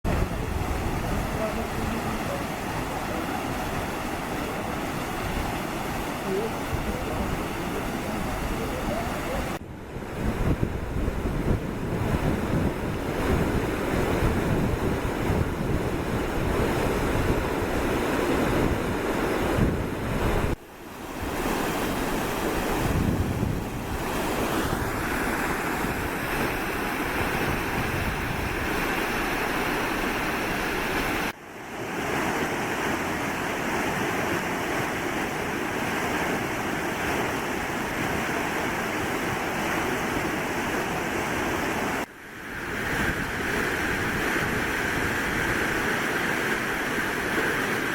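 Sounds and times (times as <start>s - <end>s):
wind buffeting microphone: 0.0s - 31.4s, 32.0s - 47.9s
rushing water: 0.0s - 47.9s
wind: 0.0s - 47.9s.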